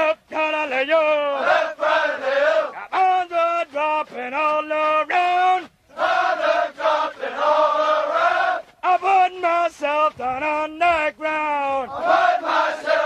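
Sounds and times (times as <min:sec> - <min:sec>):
men chanting marching cadence: 0:00.0 - 0:13.0.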